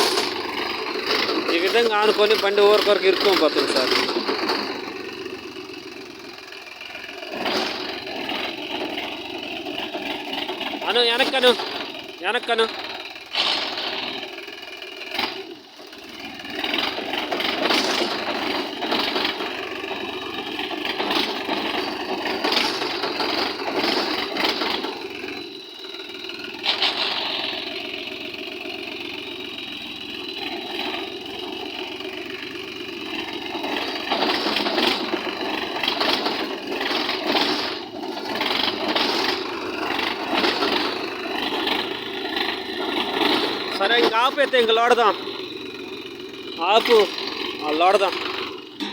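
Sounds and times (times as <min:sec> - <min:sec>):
tractor engine under load: 0:00.0 - 0:48.9.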